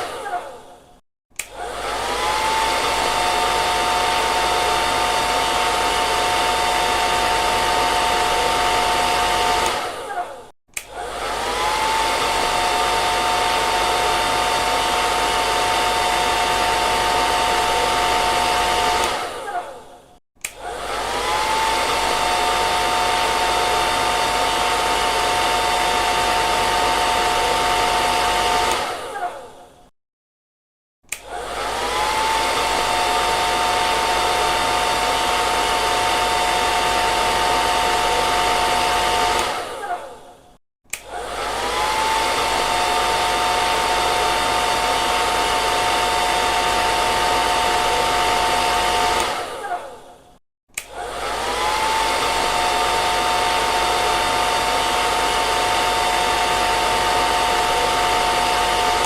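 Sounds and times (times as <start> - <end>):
hair dryer running: 0.0 - 29.8, 31.1 - 59.0.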